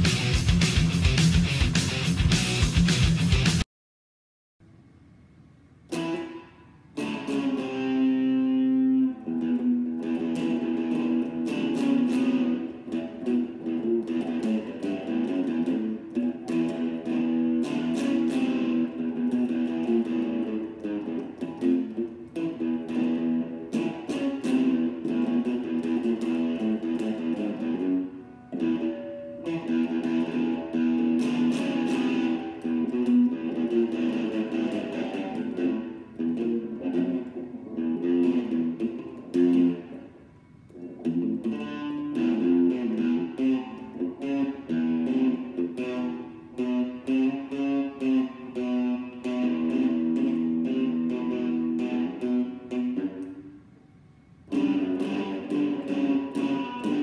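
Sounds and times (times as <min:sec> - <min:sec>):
solo electric guitar: 0:00.0 - 0:03.6, 0:05.9 - 0:57.0.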